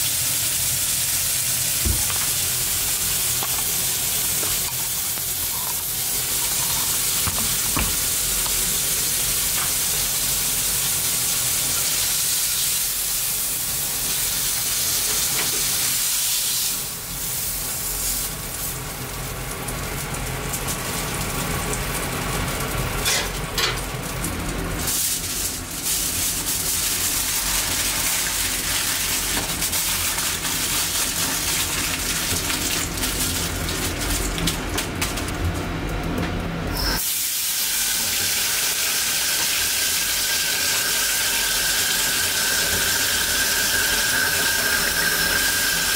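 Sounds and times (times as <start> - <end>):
meat sizzling in frying pan: 0.0 - 35.8, 36.6 - 45.9.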